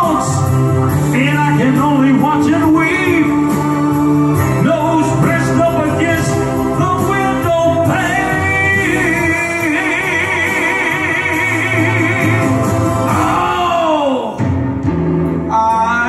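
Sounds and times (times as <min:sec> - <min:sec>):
man singing a ballad: 0:00.0 - 0:14.4
sustained backing music: 0:00.0 - 0:16.0.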